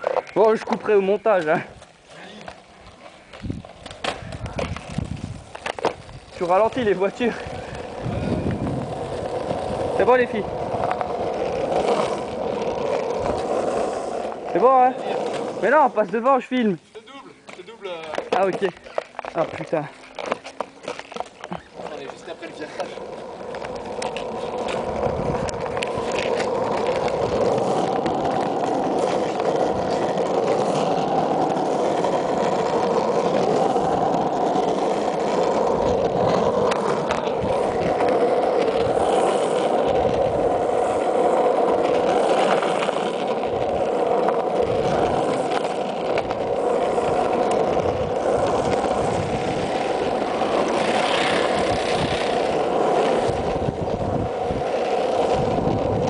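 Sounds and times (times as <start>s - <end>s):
board wheels rolling on asphalt: 0.0s - 56.0s.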